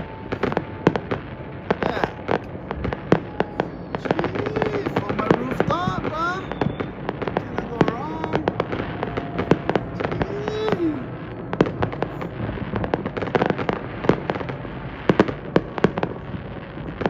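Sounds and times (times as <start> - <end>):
fireworks bangs and pops: 0.0 - 17.0
fireworks crackle: 0.0 - 17.0.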